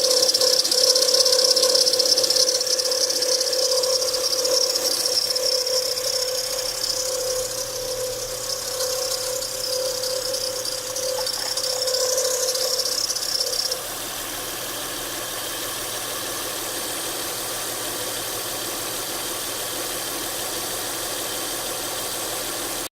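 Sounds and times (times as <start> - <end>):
belt bearing whine and rattle: 0.0 - 22.2.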